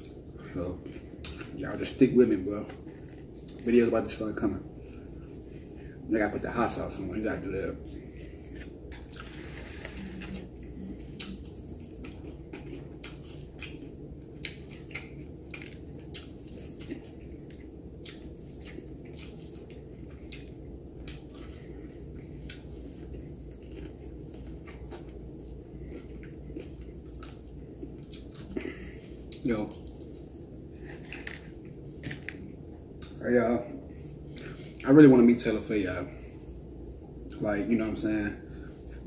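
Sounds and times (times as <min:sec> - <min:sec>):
man chewing food: 0:00.0 - 0:33.2, 0:33.8 - 0:34.8, 0:38.5 - 0:39.0
low steady hum: 0:00.0 - 0:39.0.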